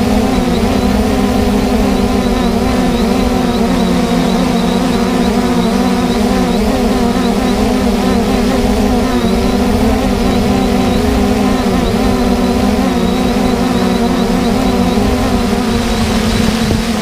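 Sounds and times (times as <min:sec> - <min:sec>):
farm machinery engine droning: 0:00.0 - 0:17.0.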